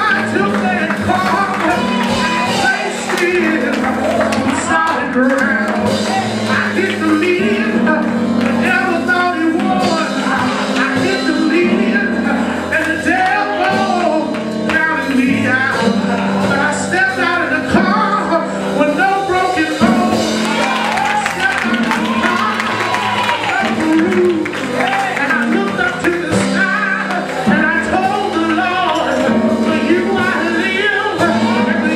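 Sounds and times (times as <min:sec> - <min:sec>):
held instrumental chords: 0:00.0 - 0:31.9.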